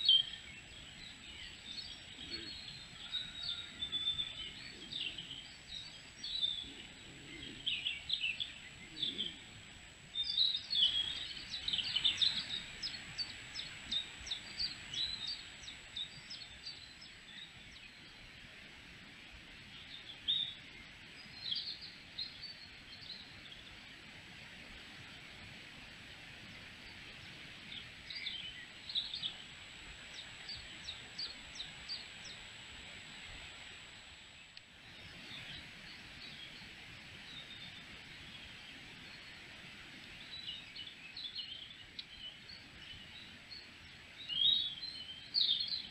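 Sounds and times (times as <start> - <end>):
songbirds chirping: 0.0 - 45.9
steady background hiss: 0.0 - 45.9.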